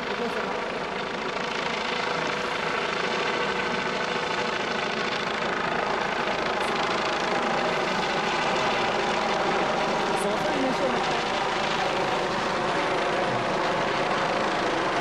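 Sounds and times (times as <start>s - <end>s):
helicopter droning overhead: 0.0s - 15.0s.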